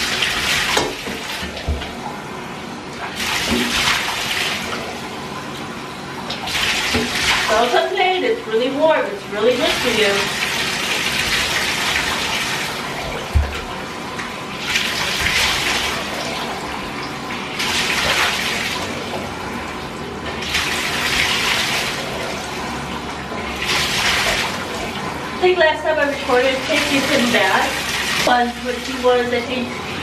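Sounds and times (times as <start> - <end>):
water running into a bathtub: 0.0 - 30.0.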